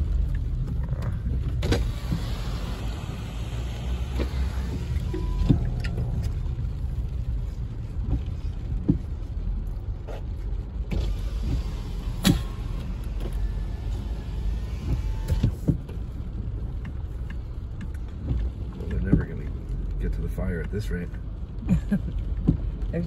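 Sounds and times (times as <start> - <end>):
car engine and tyres on wet road: 0.0 - 23.0
windshield wiper clicking: 0.1 - 23.0.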